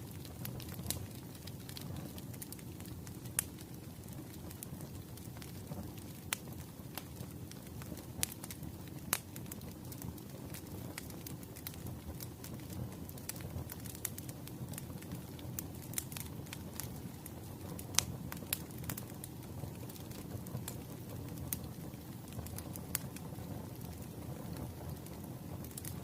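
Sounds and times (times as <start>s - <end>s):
fire low rumble: 0.0s - 26.0s
logs crackling and popping: 0.0s - 26.0s.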